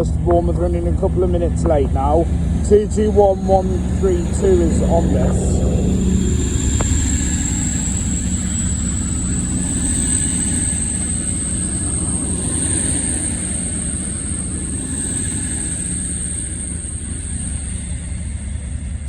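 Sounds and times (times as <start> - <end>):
diesel train engine rumble: 0.0 - 19.0
high whine rising in pitch: 0.0 - 19.0.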